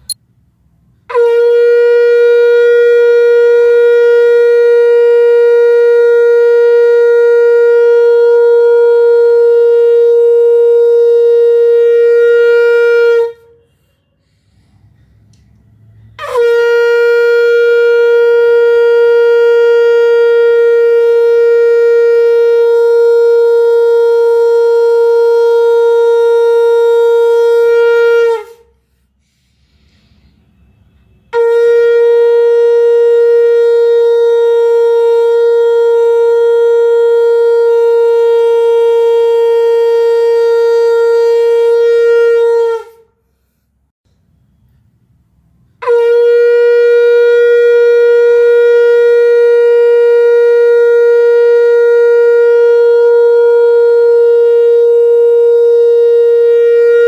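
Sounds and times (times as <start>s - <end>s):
conch shell blasts: 1.1s - 14.0s, 15.9s - 28.7s, 30.4s - 43.1s, 45.7s - 57.0s.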